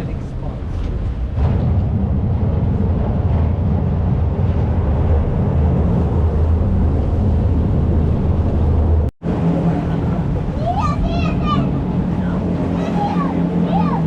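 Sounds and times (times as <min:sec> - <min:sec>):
motorboat engine rumbling: 0:00.0 - 0:14.0.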